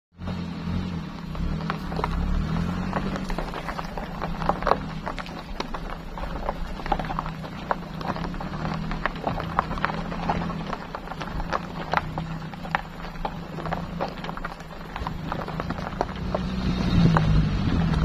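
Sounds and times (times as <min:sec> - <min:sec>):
engine low hum: 0:00.1 - 0:18.0
tyres crunching on gravel: 0:00.2 - 0:18.0.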